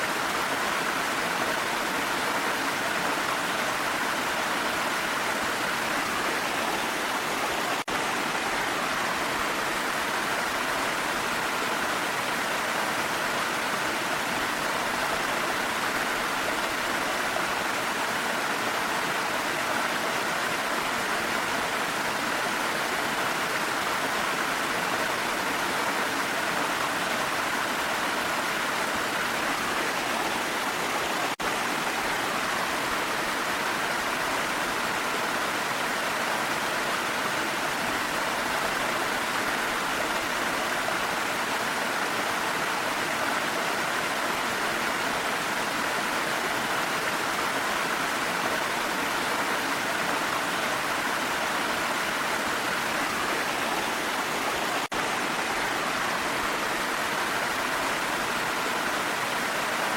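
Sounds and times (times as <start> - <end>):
rain: 0.0 - 59.9
waterfall rushing: 0.0 - 59.9.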